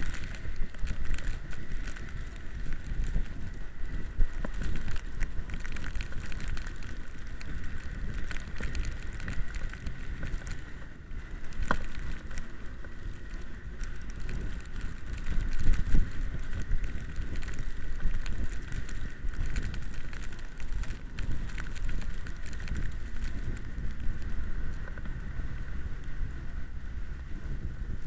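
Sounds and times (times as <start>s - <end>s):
low tyre rumble: 0.0s - 28.0s
wind buffeting microphone: 0.0s - 28.0s.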